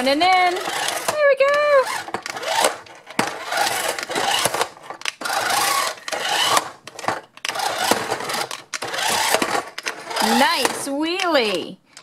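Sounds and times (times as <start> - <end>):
toy electric motors whirring: 0.0 - 11.7.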